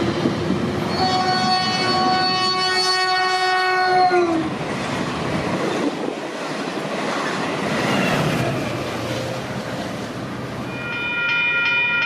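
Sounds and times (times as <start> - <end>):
train cars rushing past: 0.0 - 12.0.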